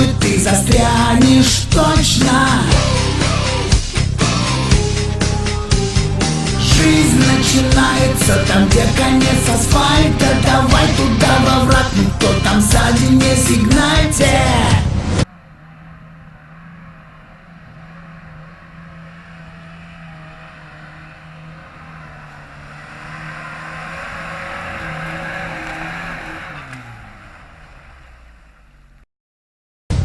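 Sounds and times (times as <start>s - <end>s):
vehicle engine running under load: 0.0s - 29.0s
rushing noise: 3.3s - 27.6s.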